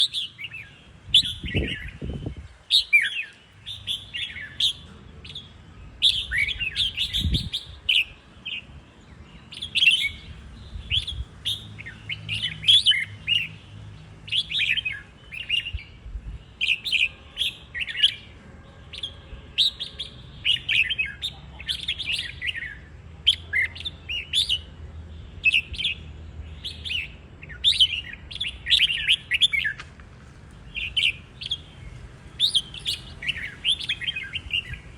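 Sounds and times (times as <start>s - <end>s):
bulbuls chirping: 0.0s - 34.9s.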